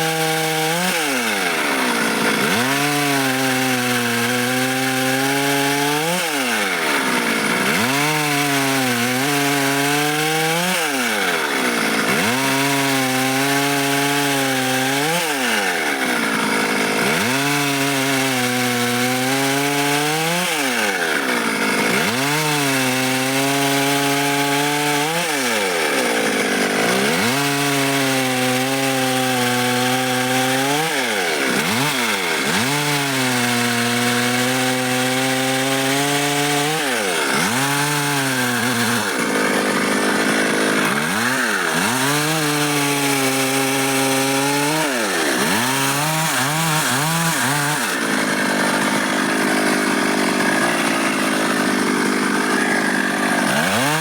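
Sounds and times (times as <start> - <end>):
chainsaw cutting dry wood: 0.0 - 54.0.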